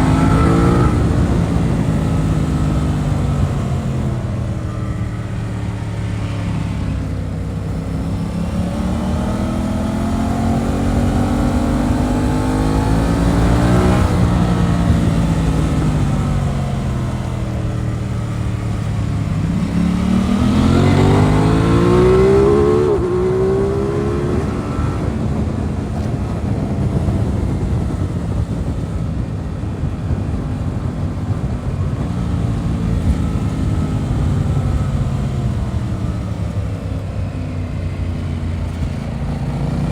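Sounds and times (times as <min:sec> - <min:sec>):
motorcycle engine revving: 0:00.0 - 0:39.9
road rush: 0:00.0 - 0:39.9.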